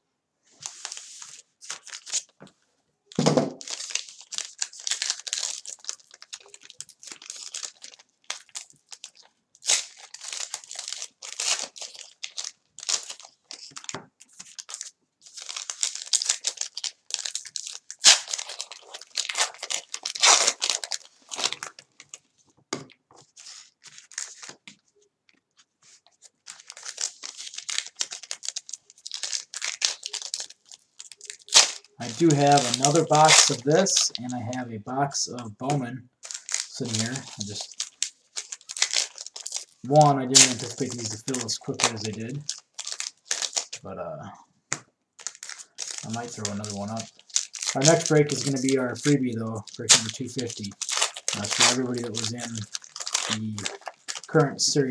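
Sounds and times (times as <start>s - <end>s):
card pack wrappers tearing: 0.6s - 2.3s, 3.1s - 22.3s, 23.4s - 24.7s, 26.2s - 34.6s, 35.6s - 43.9s, 45.2s - 54.9s.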